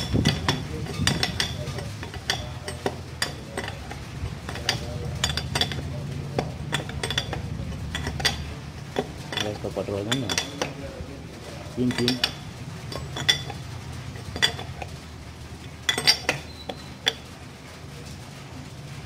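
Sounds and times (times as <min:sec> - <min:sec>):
spanner clinking on metal nut: 0:00.0 - 0:10.8, 0:11.8 - 0:15.0, 0:15.6 - 0:17.3
steady low hum: 0:00.0 - 0:19.0.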